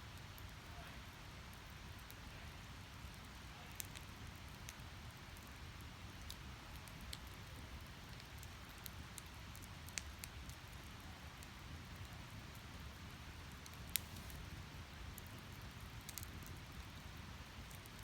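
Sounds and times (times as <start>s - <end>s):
firewood crackling: 2.9s - 18.0s.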